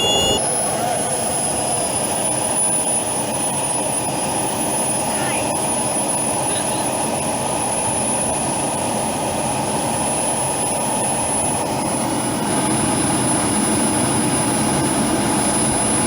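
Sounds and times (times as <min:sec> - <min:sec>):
jet engine roar and whine: 0:00.0 - 0:16.0.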